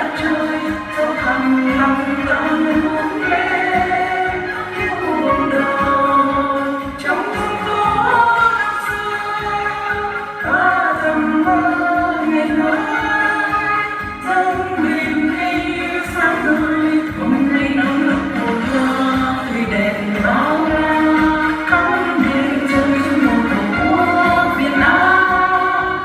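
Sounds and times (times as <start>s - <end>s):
instrumental accompaniment: 0.0s - 26.0s
person singing: 0.0s - 26.0s.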